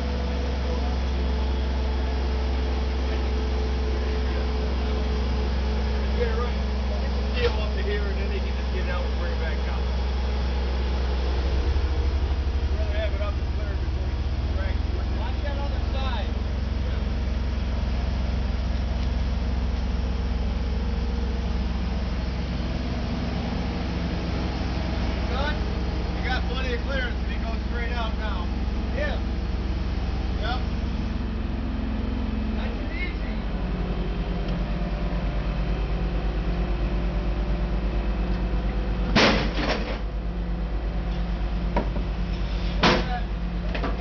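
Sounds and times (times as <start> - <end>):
crane engine droning: 0.0 - 44.0.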